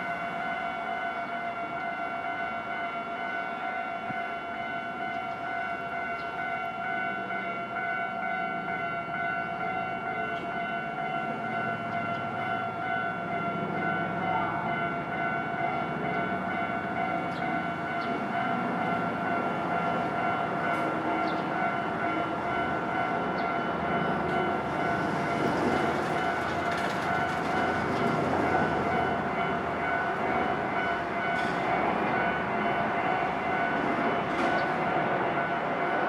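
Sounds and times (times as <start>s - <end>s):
train passing: 0.0s - 36.0s.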